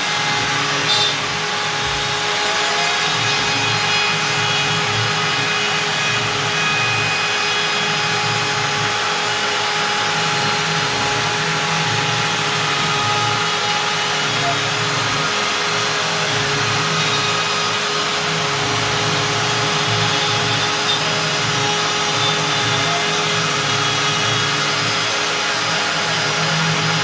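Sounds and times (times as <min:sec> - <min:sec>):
router spindle cutting wood: 0:00.0 - 0:27.0.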